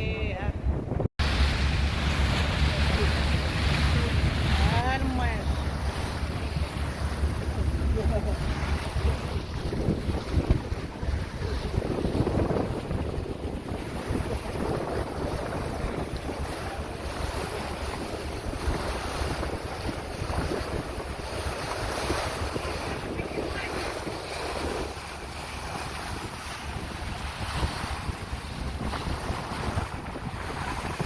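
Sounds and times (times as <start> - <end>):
water rushing past hull: 0.0 - 31.0
wind buffeting microphone: 0.0 - 31.0.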